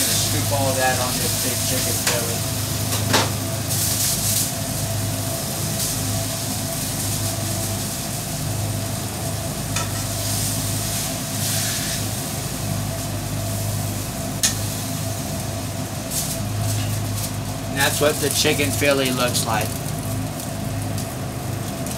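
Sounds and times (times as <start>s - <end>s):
food sizzling on a griddle: 0.0s - 21.9s.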